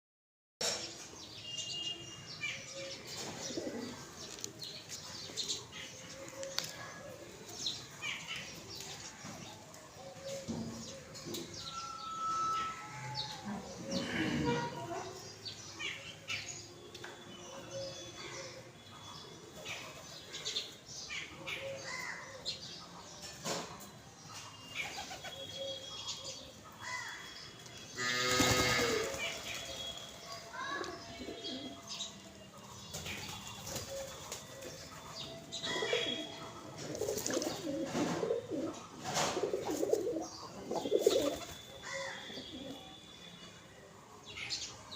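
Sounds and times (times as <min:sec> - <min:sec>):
birds chirping: 0:00.6 - 0:44.9.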